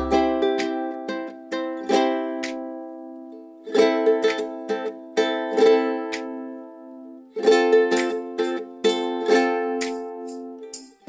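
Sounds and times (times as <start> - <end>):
ukulele strumming chord: 0.0 - 11.0.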